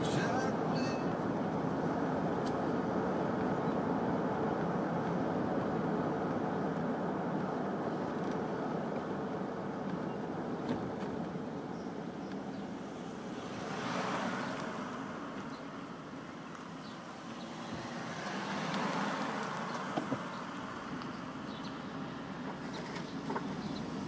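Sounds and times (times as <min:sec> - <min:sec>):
car engine noise: 0:00.0 - 0:24.0.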